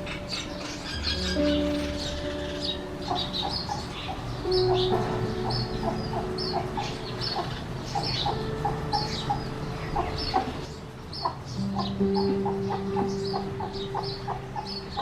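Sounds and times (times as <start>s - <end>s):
sparrow chirping: 0.0s - 15.0s.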